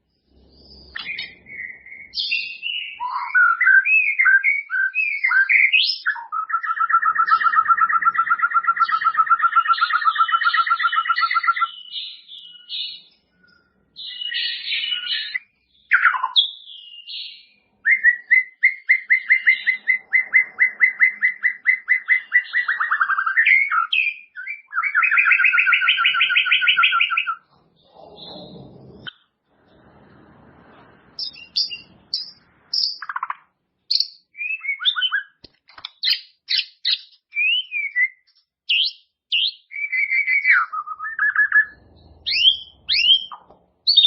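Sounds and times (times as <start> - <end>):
songbird singing: 0.0 - 44.0.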